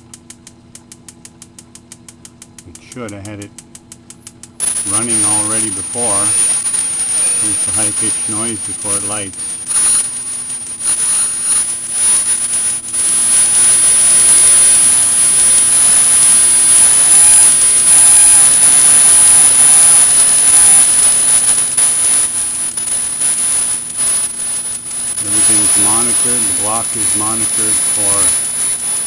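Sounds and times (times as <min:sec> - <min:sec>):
gas burner hissing with high whine: 0:04.6 - 0:29.0.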